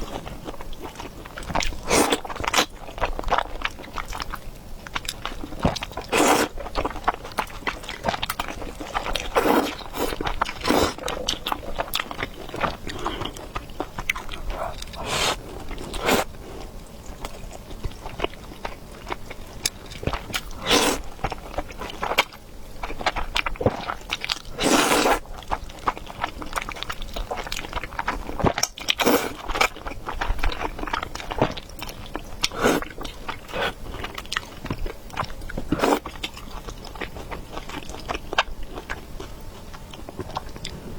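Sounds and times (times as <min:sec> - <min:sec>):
chewing and biting noodles: 0:00.0 - 0:40.8.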